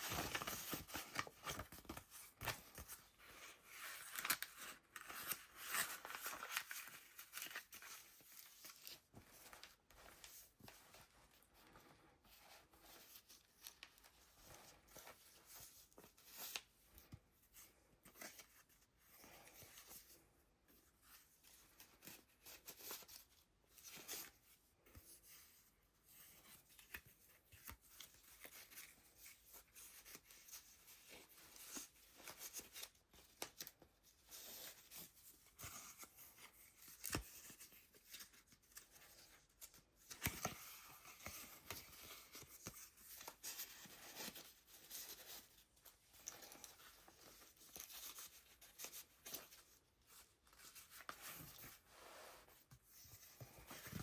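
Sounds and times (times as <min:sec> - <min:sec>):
paper pages rustling: 0:00.0 - 0:17.2, 0:26.2 - 0:54.0.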